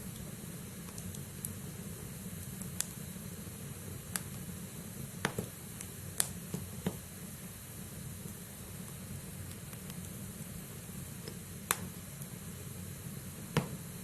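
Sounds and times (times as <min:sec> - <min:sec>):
firewood crackles and pops: 0:00.0 - 0:12.4
fire burning: 0:00.0 - 0:14.0.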